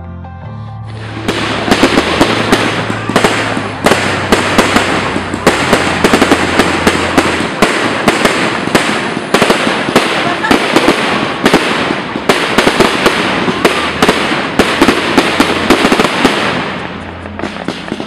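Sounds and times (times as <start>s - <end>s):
fireworks crackling: 1.0s - 18.0s
fireworks popping and banging: 1.0s - 18.0s
loud firework reports: 1.0s - 18.0s.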